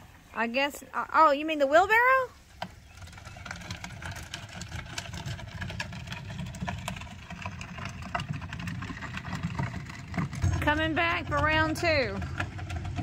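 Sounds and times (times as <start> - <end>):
wheelbarrow rolling over gravel: 0.0 - 13.0.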